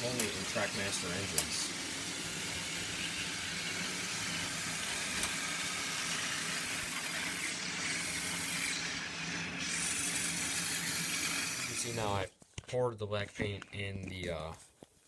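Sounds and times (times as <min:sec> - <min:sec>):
toy train motors whirring: 0:00.0 - 0:12.3.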